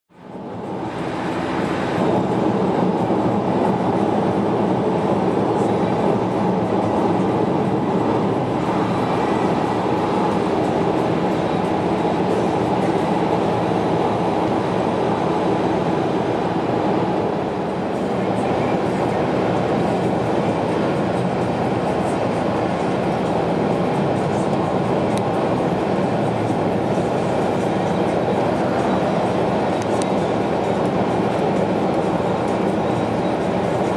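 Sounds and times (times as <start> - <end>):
car road noise from inside cabin: 0.1 - 33.9.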